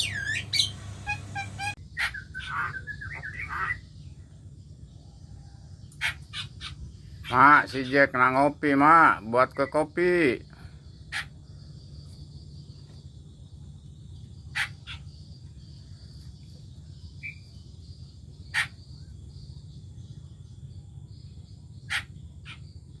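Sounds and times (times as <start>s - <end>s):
starling sharp calls: 0.0s - 4.2s, 5.8s - 13.0s, 14.0s - 23.0s
bird chirp: 0.0s - 23.0s
steady low hum: 0.0s - 23.0s.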